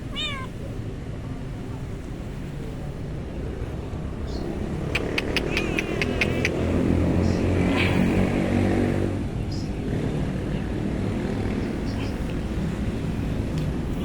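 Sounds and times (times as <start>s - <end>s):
engine droning: 0.0s - 14.0s.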